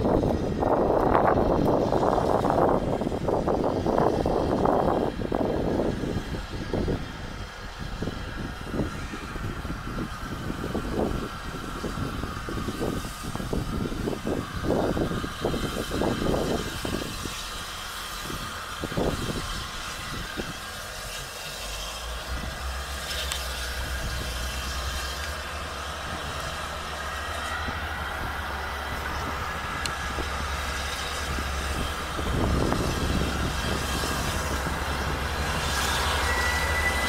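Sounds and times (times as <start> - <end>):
distant steam locomotive rumble: 0.0 - 37.0.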